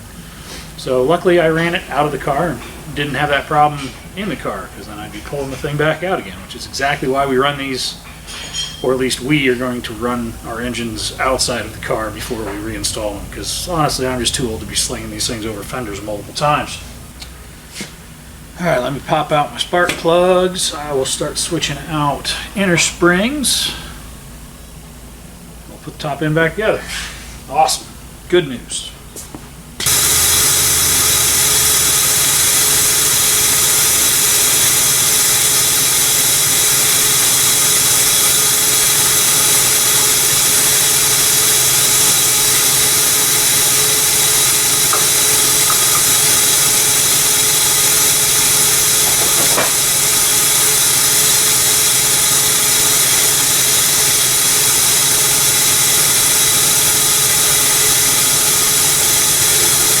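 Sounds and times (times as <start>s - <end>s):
loud hissing machine noise: 0.0s - 29.2s, 29.8s - 60.0s.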